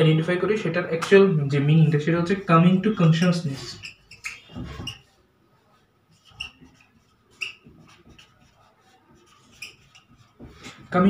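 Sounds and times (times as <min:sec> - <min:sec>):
marker squeaking on whiteboard: 0:01.6 - 0:11.0.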